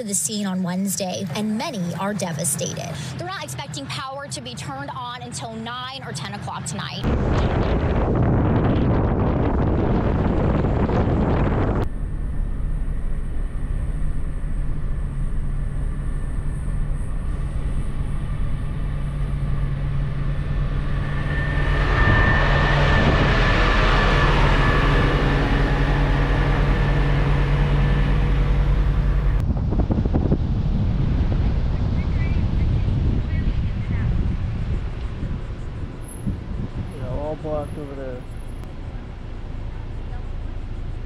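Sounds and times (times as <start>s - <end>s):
vehicle engine hum: 0.0s - 41.0s
rushing sound with whine: 7.0s - 41.0s.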